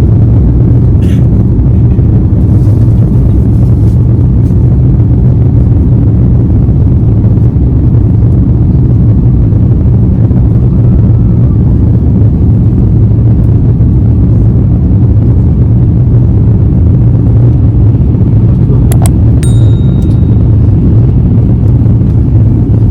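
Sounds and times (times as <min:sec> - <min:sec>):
jet engine cabin rumble: 0:00.0 - 0:22.9.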